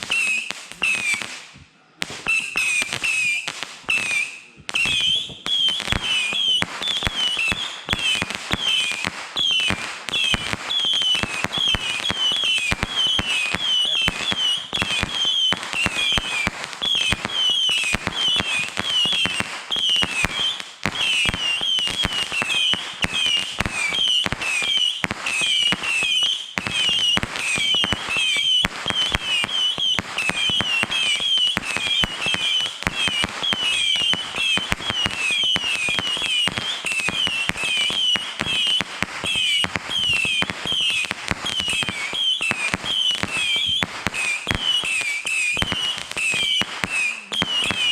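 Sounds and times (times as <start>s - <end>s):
firecrackers popping: 0.0s - 47.9s.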